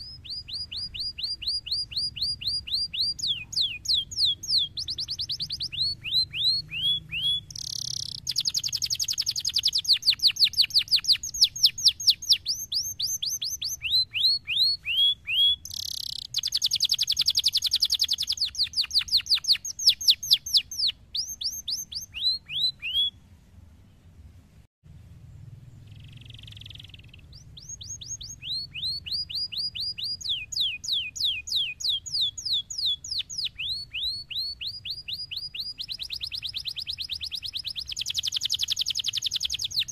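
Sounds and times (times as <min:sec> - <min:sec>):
canary singing trills: 0:00.0 - 0:23.3, 0:25.7 - 0:39.9.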